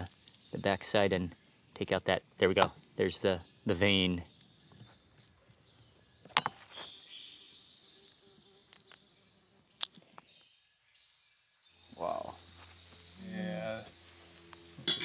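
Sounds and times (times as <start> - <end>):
faint insect drone: 0.0 - 15.0.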